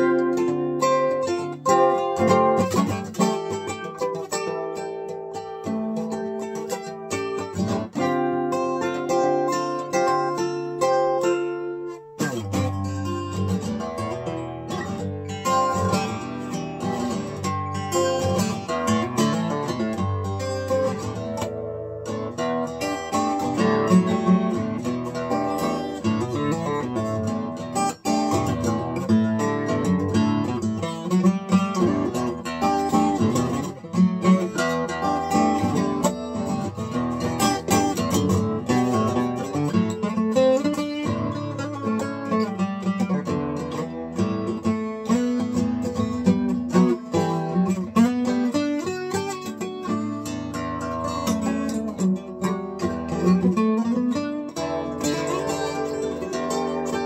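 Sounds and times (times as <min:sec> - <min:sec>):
acoustic guitar playing: 0:00.0 - 0:57.0.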